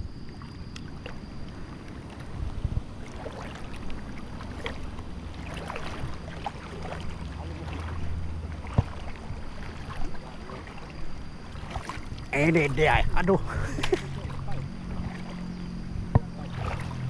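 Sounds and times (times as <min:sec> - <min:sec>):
water sloshing and splashing: 0:00.0 - 0:17.0
wind rumbling on microphone: 0:00.0 - 0:17.0.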